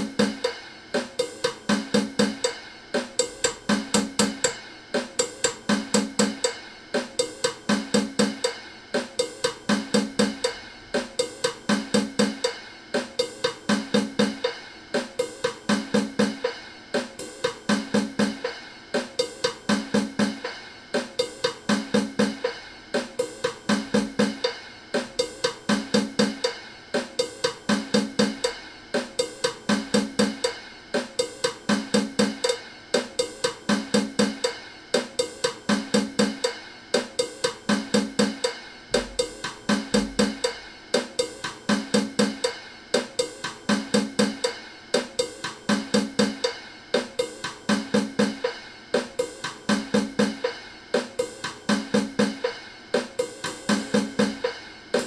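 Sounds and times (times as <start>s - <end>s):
drum and percussion loop: 0.0s - 55.0s.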